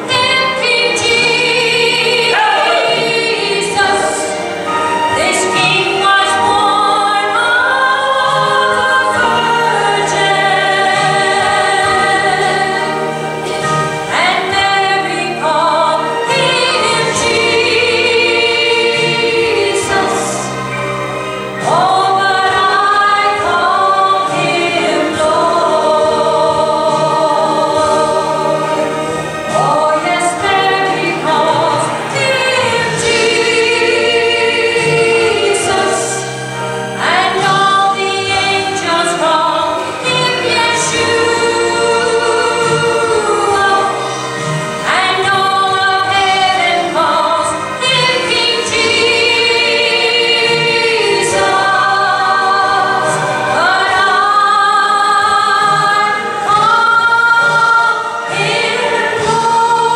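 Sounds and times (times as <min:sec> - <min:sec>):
woman singing gospel song: 0:00.0 - 0:13.0, 0:21.6 - 0:36.3, 0:37.0 - 0:44.2, 0:44.8 - 0:59.9
musical accompaniment: 0:00.0 - 0:59.9.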